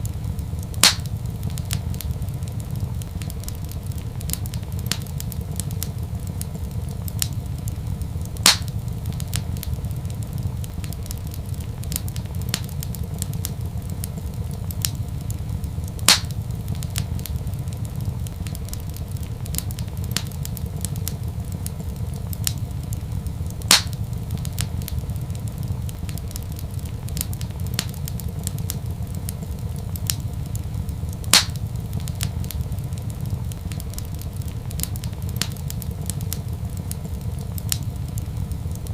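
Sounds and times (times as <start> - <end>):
loud fire pops: 0.0 - 38.9
wood fire crackling: 0.0 - 38.9.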